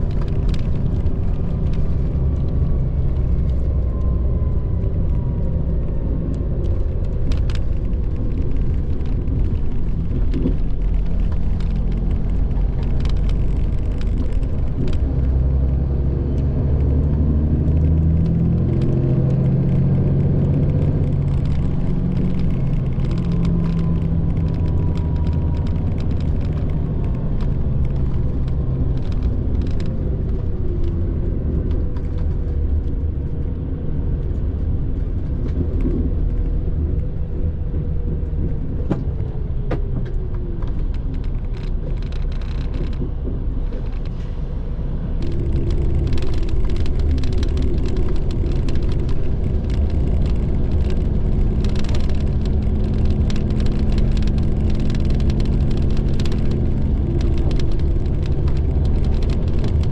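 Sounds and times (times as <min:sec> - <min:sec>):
light clicks and rattles: 0:00.0 - 0:44.3, 0:45.2 - 0:59.9
diesel engine and road noise: 0:00.0 - 0:59.9.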